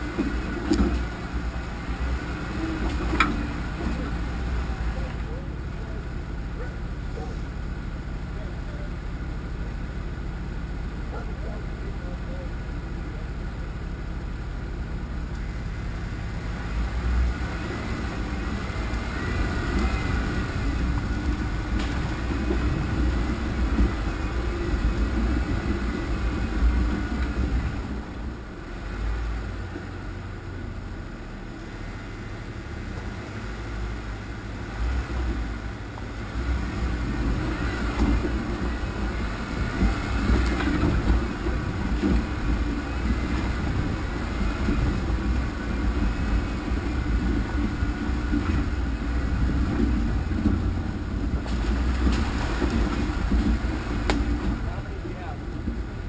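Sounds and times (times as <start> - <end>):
vehicle engine rumble: 0.0 - 56.0.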